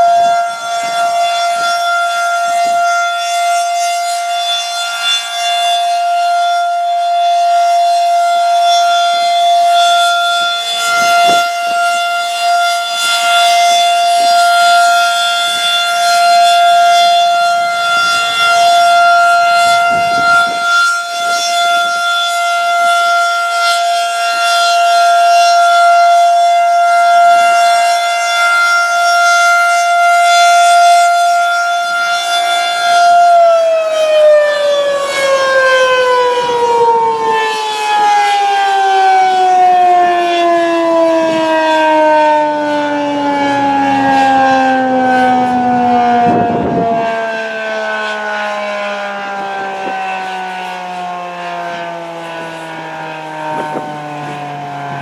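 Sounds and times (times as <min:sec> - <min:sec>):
tornado siren winding down: 0:00.0 - 0:55.0.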